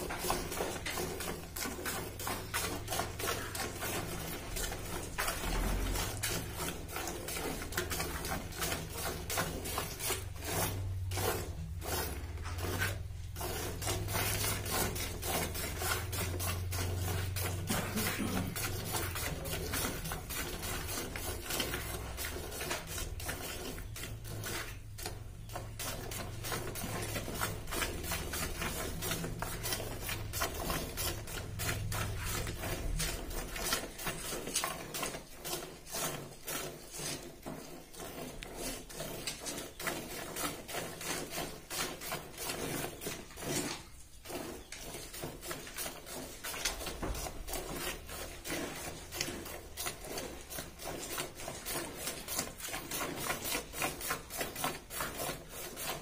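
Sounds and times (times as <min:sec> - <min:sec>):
milk squirting into plastic bucket: 0:00.0 - 0:56.0.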